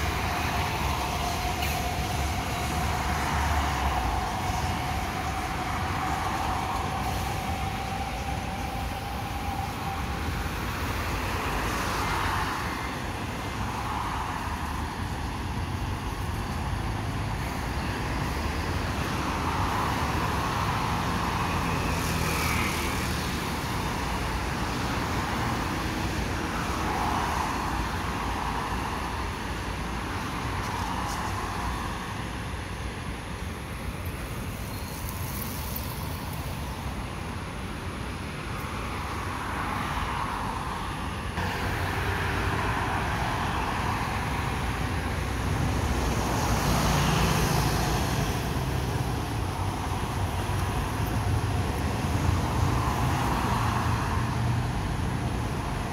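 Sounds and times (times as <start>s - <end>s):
cars and buses passing: 0.0s - 55.9s
metro train whine: 0.0s - 55.9s
steady traffic hum: 0.0s - 55.9s.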